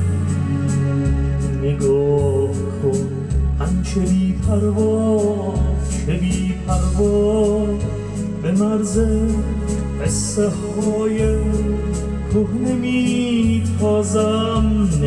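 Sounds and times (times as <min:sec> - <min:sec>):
bass line: 0:00.0 - 0:15.0
drum machine beat with hi-hat: 0:00.0 - 0:15.0
sustained organ chords: 0:00.0 - 0:15.0.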